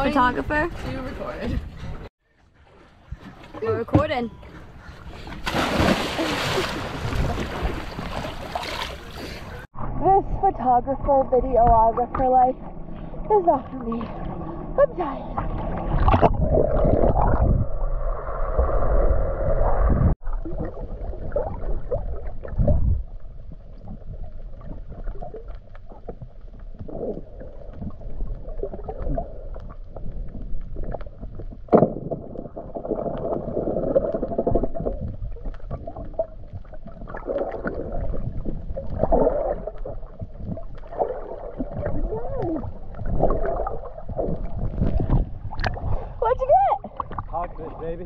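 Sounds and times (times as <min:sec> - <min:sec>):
water swishing and gurgling: 0:00.0 - 0:48.0.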